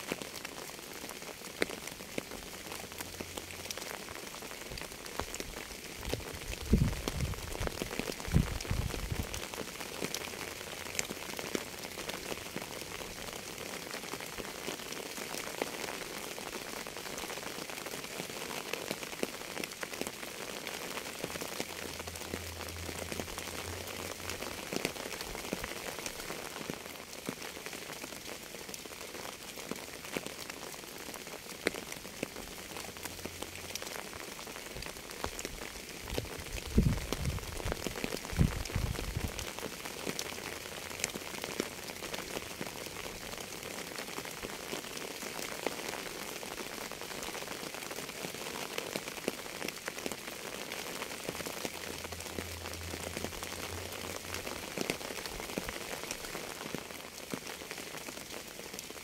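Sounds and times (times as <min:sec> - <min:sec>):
steady rain drops: 0:00.0 - 0:59.0.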